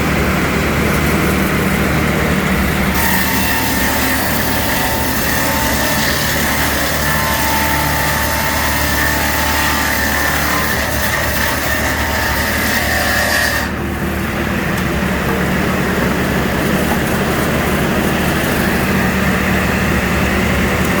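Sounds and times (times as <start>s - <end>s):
saw motor and blades humming: 0.0s - 21.0s.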